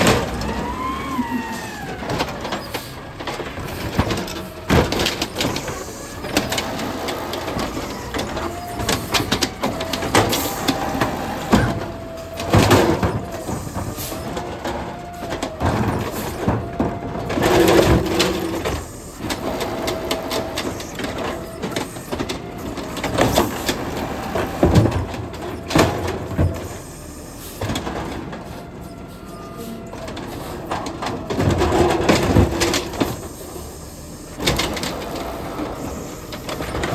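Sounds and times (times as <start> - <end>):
bins clanking and banging: 0.0 - 36.9
hydraulic whine: 0.0 - 36.9
truck engine running: 0.0 - 36.9.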